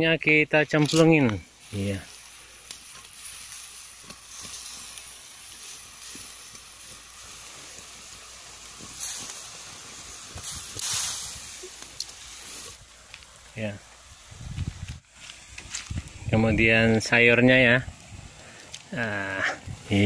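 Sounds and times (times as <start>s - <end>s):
noodles boiling with hiss and sizzle: 0.0s - 20.0s.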